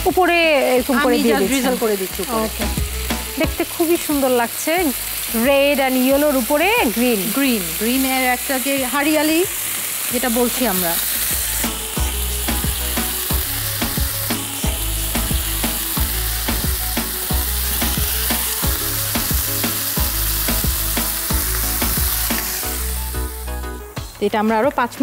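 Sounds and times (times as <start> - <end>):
background music with steady beat: 0.0 - 4.3, 8.7 - 25.0
kebab skewers sizzling in oil: 0.0 - 25.0.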